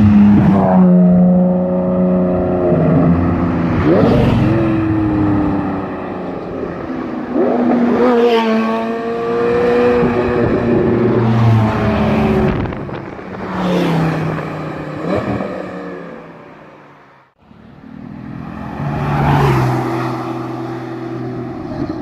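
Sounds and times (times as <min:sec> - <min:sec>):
sports car engines revving: 0:00.0 - 0:22.0.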